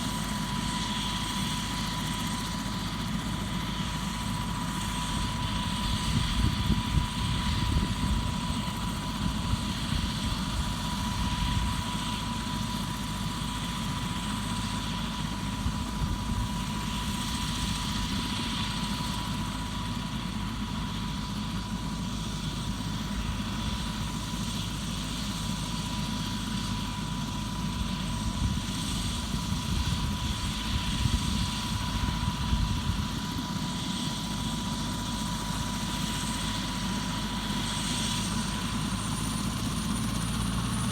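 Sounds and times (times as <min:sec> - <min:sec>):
helicopter rotor and engine: 0:00.0 - 0:40.9.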